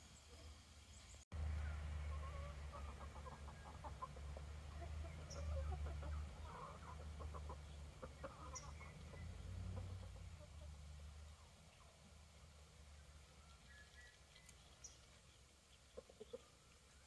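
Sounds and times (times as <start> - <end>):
chickens clucking: 1.5 - 12.2, 13.0 - 17.0.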